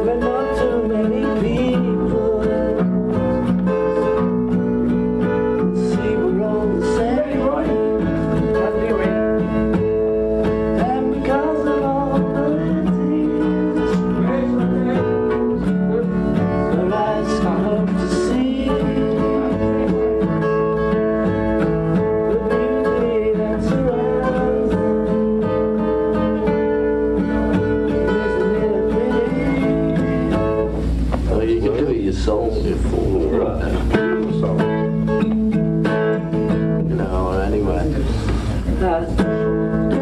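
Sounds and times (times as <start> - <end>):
band playing slow guitar chords: 0.0 - 40.0.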